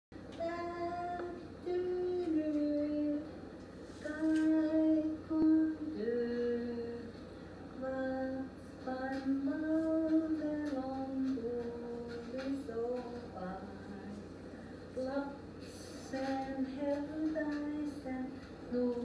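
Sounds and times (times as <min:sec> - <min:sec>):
woman singing unaccompanied: 0:00.2 - 0:14.3, 0:14.9 - 0:19.0.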